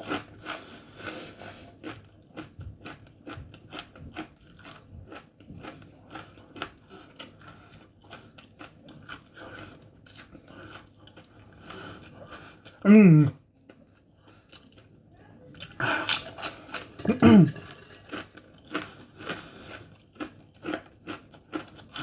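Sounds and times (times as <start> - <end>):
person chewing corn chips: 0.0 - 22.0.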